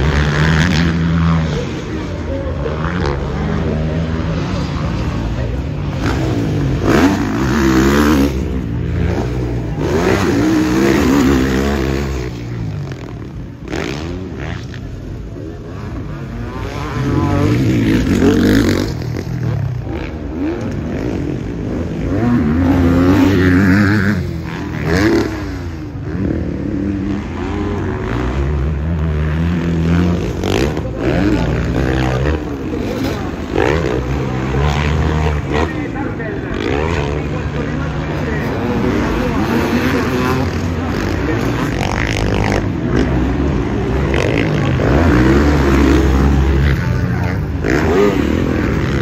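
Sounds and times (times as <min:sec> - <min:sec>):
motocross bike engines revving: 0:00.0 - 0:49.0.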